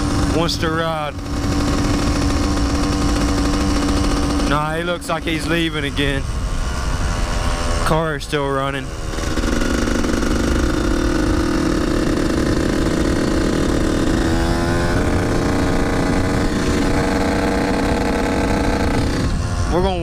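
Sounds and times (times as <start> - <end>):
dirt bike engine running: 0.0 - 20.0
wind rushing over microphone: 0.0 - 20.0.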